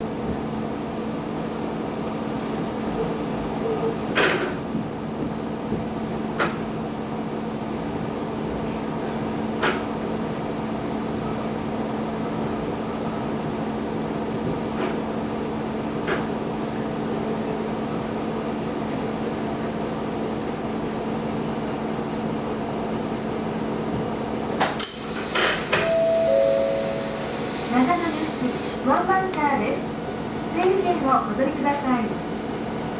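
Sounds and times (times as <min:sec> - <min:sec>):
diesel railcar hum: 0:00.0 - 0:32.9.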